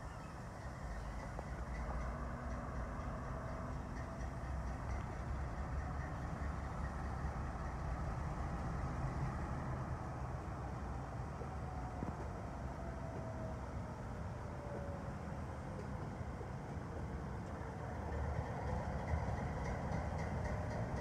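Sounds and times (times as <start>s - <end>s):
diesel train engine rumbling: 0.0s - 21.0s.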